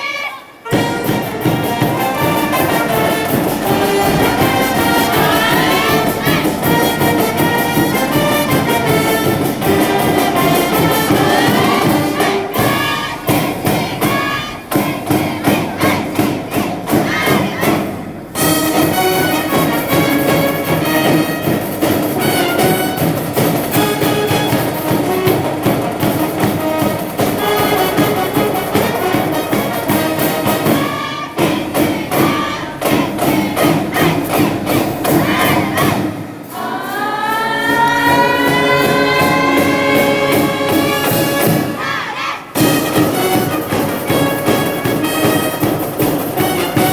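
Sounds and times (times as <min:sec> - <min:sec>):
brass band playing: 0:00.5 - 0:46.9
sharp drum hits: 0:00.7 - 0:36.6, 0:37.8 - 0:46.9.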